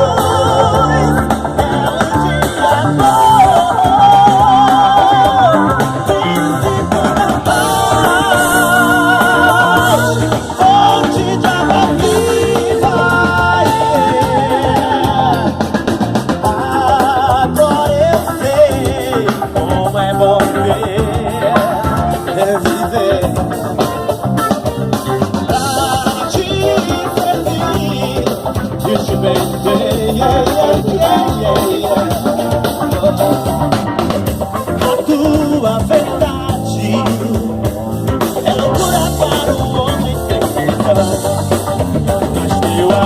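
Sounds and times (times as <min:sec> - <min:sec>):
bass guitar: 0:00.0 - 0:43.0
drum kit: 0:00.0 - 0:43.0
electric guitar: 0:00.0 - 0:43.0
keyboards: 0:00.0 - 0:43.0
melodic lead line with vibrato: 0:00.0 - 0:43.0.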